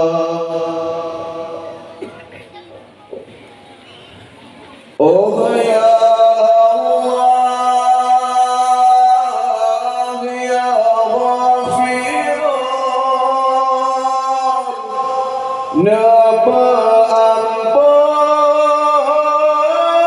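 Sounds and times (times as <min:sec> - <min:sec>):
man singing unaccompanied: 0:00.0 - 0:02.0, 0:05.0 - 0:20.0.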